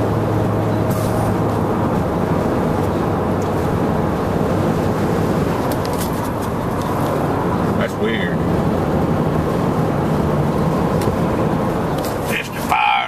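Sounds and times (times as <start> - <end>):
moving vehicle rumble and hiss: 0.0 - 13.0.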